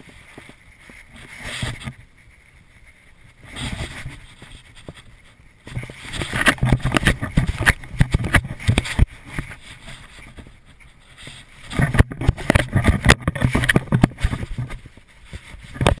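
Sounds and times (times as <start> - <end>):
camera rubbing against wet fur: 0.0 - 16.0.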